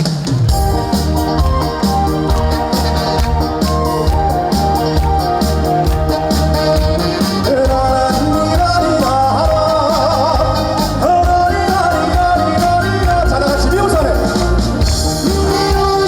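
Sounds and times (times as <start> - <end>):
live band playing upbeat song: 0.0 - 16.0.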